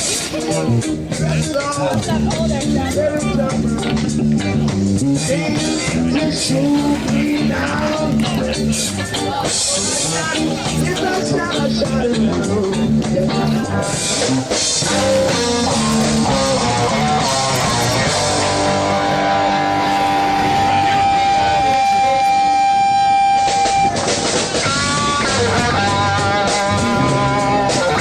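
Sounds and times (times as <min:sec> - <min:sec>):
guitar-led rock music: 0:00.0 - 0:28.0.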